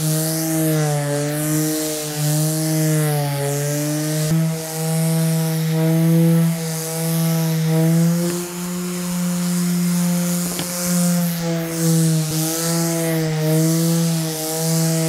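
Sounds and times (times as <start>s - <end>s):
orbital sander on wood: 0.0s - 15.0s.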